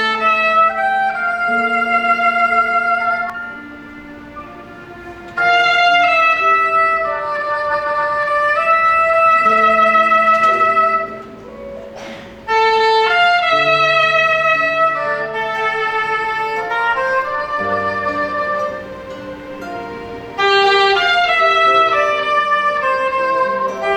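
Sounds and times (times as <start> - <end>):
backing accompaniment: 0.0 - 23.9
soprano saxophone melody: 0.0 - 23.9.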